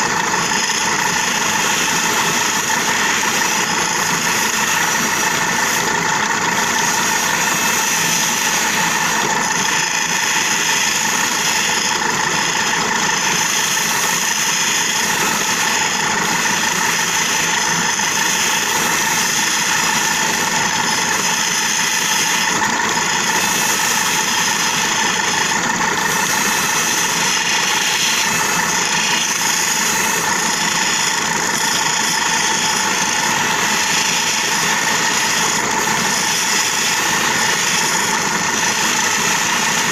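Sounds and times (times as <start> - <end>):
polishing wheel motor running: 0.0 - 39.9.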